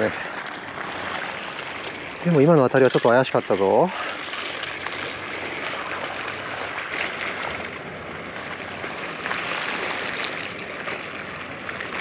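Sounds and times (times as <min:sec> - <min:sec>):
small water splashes: 0:00.0 - 0:12.0
water lapping against breakwater: 0:00.0 - 0:12.0.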